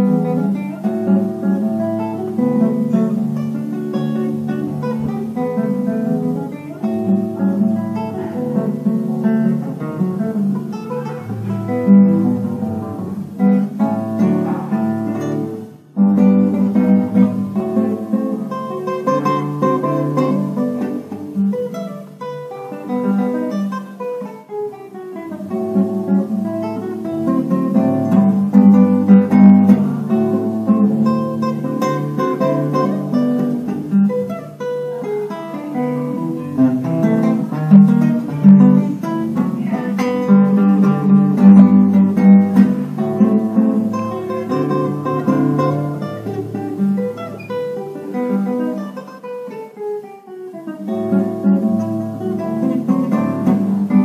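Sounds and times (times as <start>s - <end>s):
fingerpicked classical guitar: 0.0s - 54.0s.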